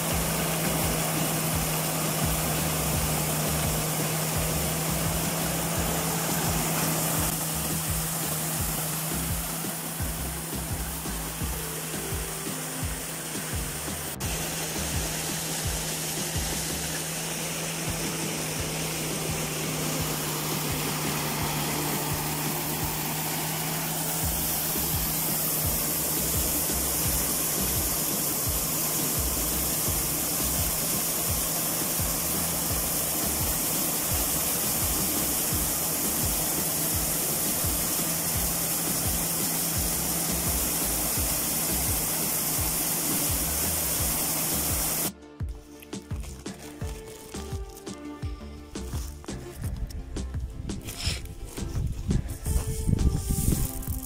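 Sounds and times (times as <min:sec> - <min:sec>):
cobs being threshed: 0:00.0 - 0:54.0
maize sheller machine drone: 0:00.0 - 0:54.0.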